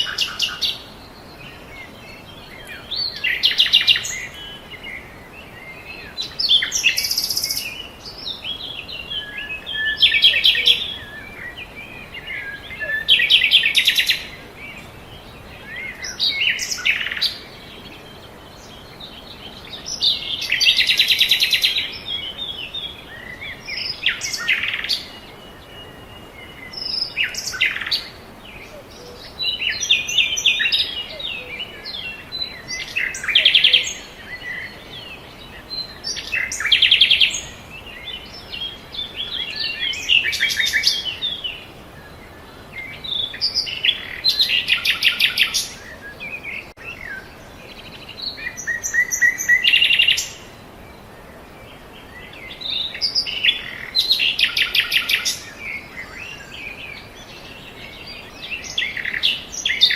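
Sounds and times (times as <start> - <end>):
birds singing: 0.0 - 59.9.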